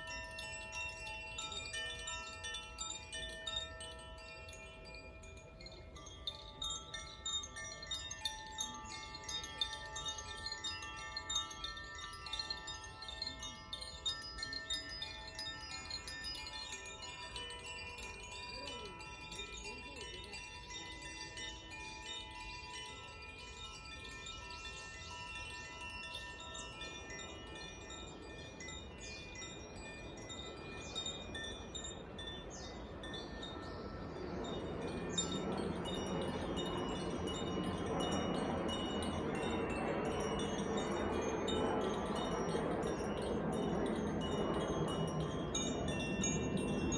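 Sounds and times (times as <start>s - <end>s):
chimes ringing: 0.0s - 46.9s.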